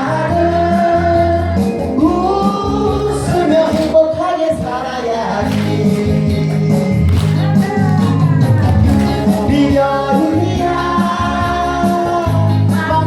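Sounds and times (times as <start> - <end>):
song with sung vocals: 0.0 - 13.0.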